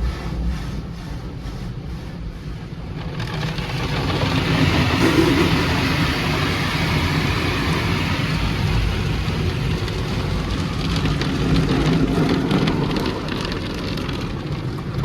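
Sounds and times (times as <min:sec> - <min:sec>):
car wash equipment rumble: 0:00.0 - 0:15.0.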